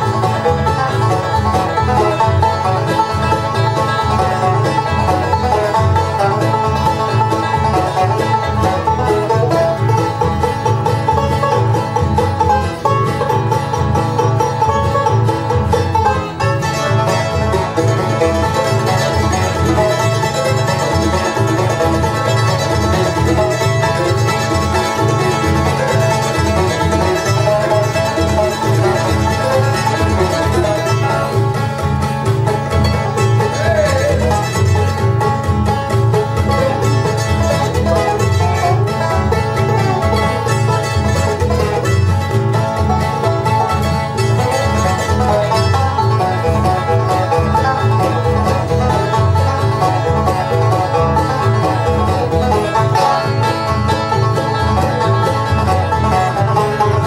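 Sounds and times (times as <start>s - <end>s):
bluegrass instrumental music: 0.0s - 57.0s.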